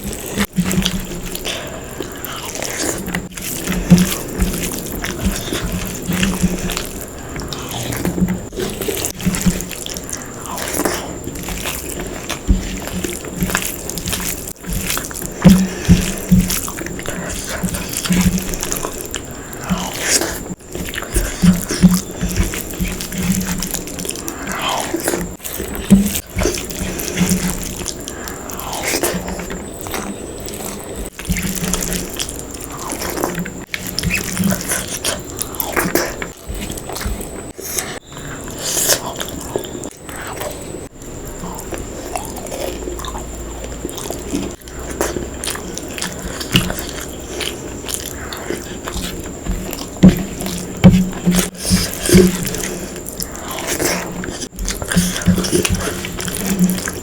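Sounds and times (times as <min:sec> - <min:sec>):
person biting and chewing food: 0:00.0 - 0:57.0.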